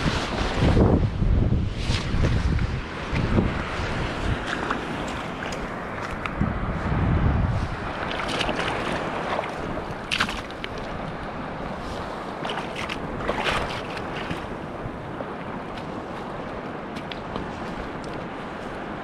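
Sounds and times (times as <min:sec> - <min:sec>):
surf: 0:00.0 - 0:19.0
wind: 0:00.0 - 0:19.0
wind buffeting microphone: 0:00.0 - 0:19.0.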